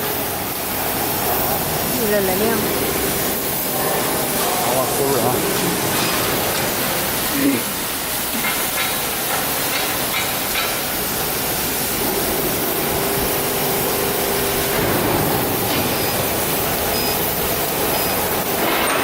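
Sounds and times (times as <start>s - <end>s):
workshop machinery hissing: 0.0s - 19.0s.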